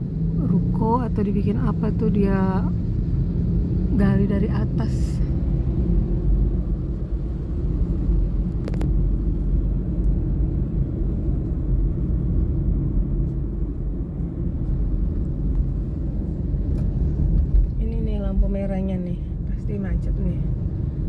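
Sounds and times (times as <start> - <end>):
vehicle rumble in traffic: 0.0 - 21.0.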